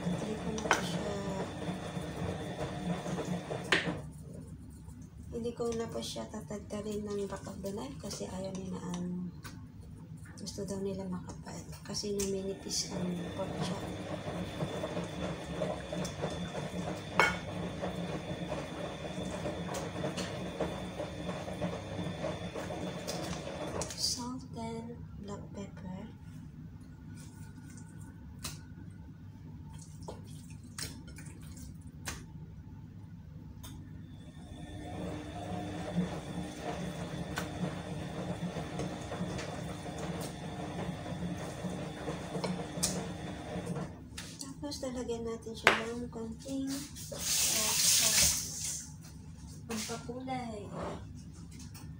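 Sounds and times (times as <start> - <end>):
steady background hum: 0.0 - 51.9.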